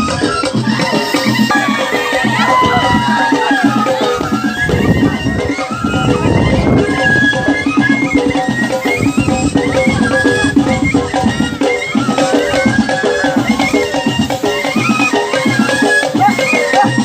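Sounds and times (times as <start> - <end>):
lively traditional-style music: 0.0 - 17.0
steady drumming: 0.0 - 17.0.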